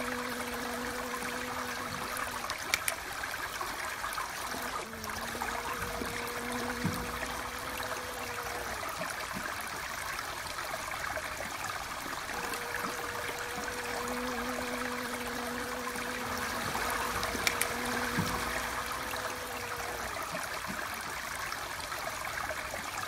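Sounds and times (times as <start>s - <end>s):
faint steady hum: 0.0s - 23.0s
running water: 0.0s - 23.0s.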